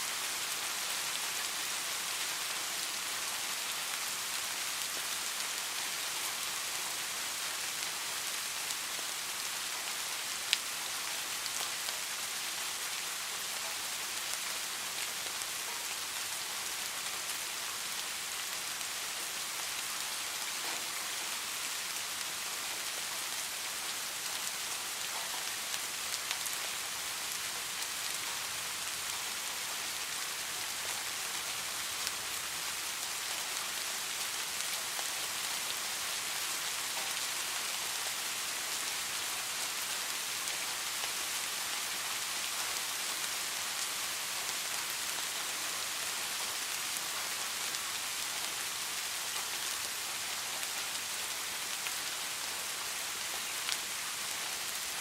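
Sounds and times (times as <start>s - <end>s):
steady rain hiss: 0.0s - 55.0s
sharp ticks of raindrops: 0.2s - 55.0s.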